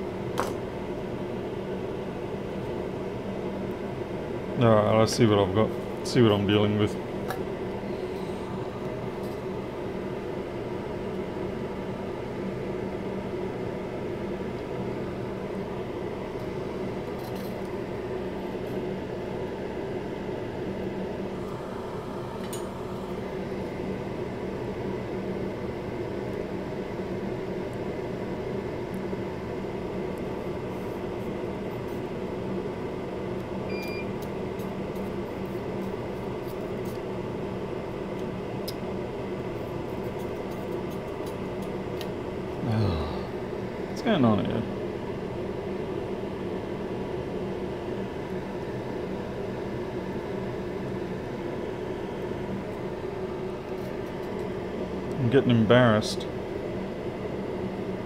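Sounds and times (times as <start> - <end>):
fan humming: 0.0 - 58.0.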